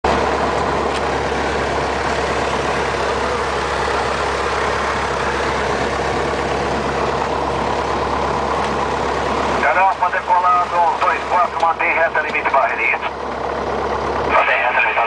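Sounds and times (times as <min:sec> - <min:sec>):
aircraft piston engine drone: 0:00.1 - 0:15.0.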